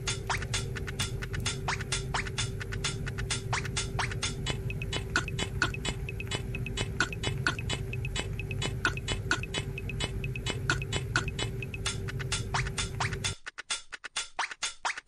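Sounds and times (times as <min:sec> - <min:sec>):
steady held tone: 0:00.0 - 0:13.4
ticking percussion beat: 0:00.0 - 0:15.0.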